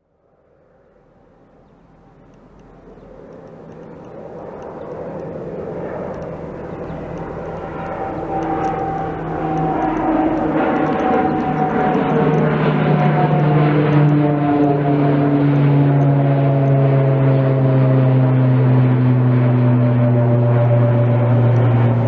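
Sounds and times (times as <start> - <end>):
jet engines whining and rumbling: 0.3 - 22.0.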